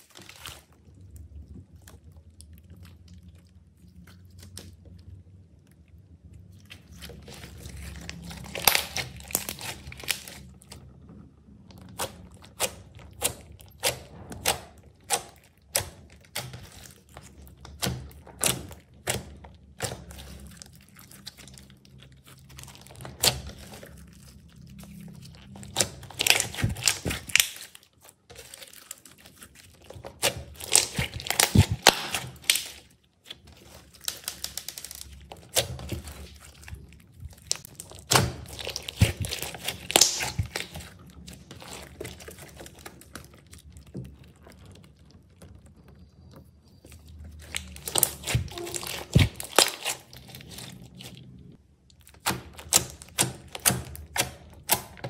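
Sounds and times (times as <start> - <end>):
slime crackling and popping: 6.4 - 55.0.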